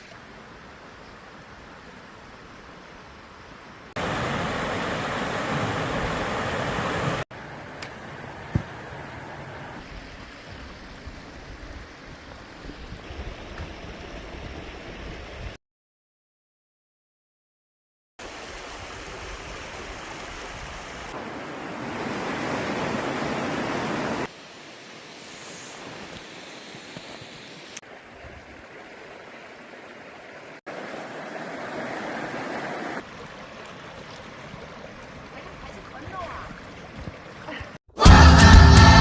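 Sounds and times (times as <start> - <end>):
stream water rushing: 0.0 - 15.6, 18.2 - 39.0.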